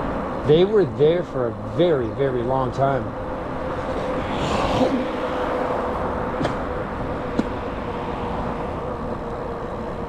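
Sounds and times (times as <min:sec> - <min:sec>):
street traffic hum: 0:00.0 - 0:10.0.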